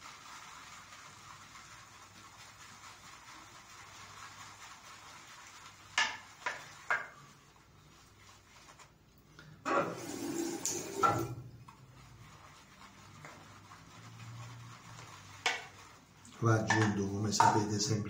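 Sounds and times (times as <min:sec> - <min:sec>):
shaving brush swishing lather: 0:00.0 - 0:18.0.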